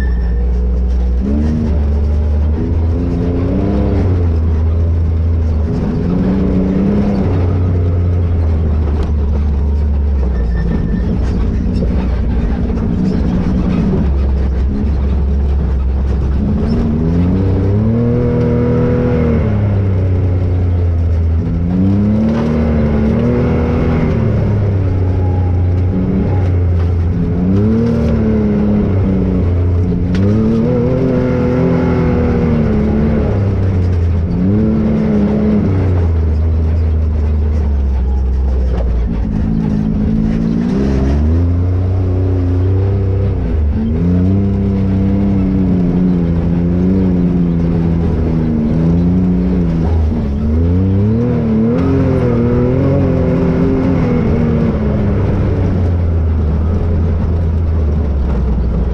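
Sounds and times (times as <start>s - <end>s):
engine revving: 0.0s - 58.9s.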